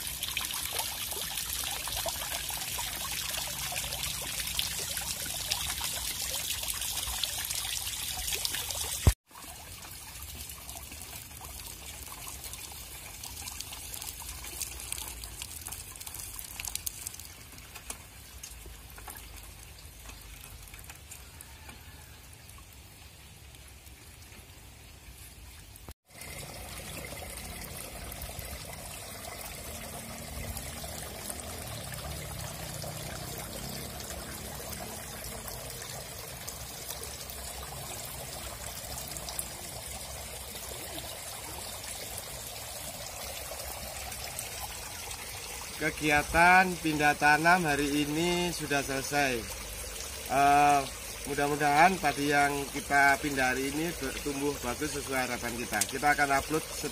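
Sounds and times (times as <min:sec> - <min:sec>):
water pouring from pipes: 0:00.0 - 0:56.9.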